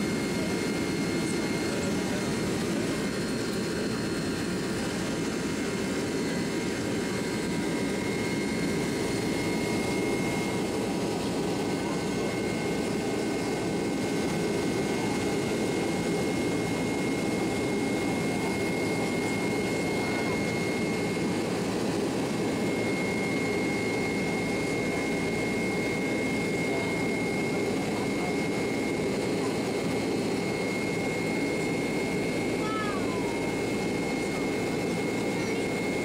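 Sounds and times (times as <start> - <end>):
jet engine and airflow noise: 0.0 - 36.0.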